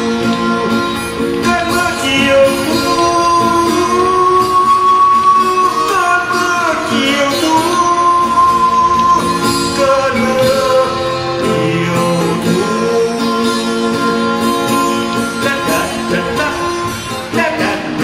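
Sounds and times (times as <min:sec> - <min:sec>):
slow ballad with guitar: 0:00.0 - 0:18.0.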